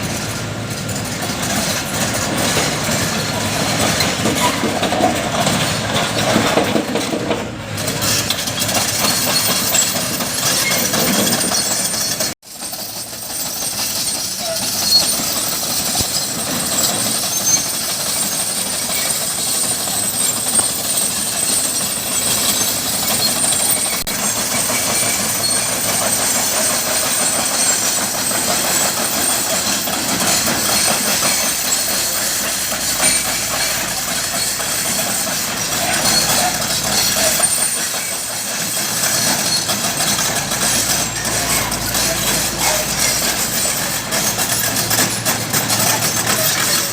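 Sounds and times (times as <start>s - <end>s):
backhoe loader running: 0.0s - 46.9s
metallic rattling and clanking: 0.0s - 46.9s.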